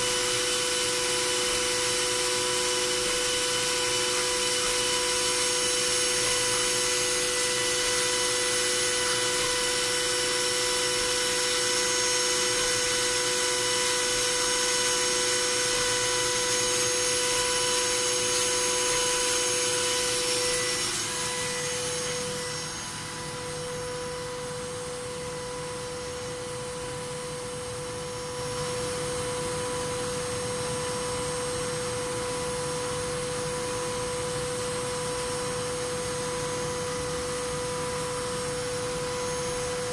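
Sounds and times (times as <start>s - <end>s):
spindle high whine: 0.0s - 39.9s.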